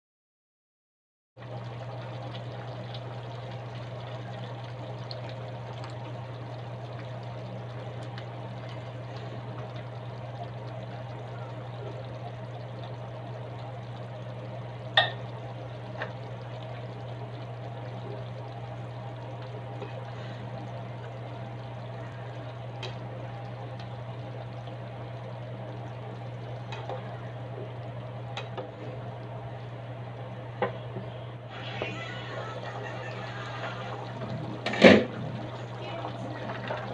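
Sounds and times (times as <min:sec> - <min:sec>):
steady low hum: 0:01.4 - 0:36.9
stew simmering and bubbling: 0:01.4 - 0:36.9.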